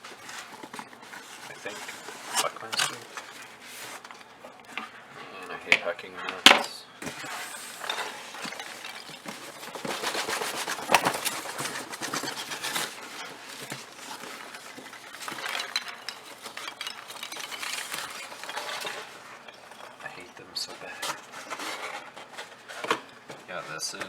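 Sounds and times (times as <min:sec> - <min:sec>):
packing peanuts rustling: 0:00.0 - 0:24.0.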